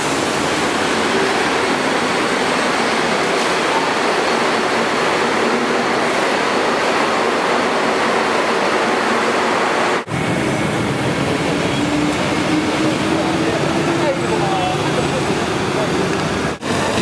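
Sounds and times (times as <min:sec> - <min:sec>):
busy street traffic: 0:00.0 - 0:07.8, 0:10.0 - 0:17.0
monorail train rushing past: 0:00.0 - 0:17.0.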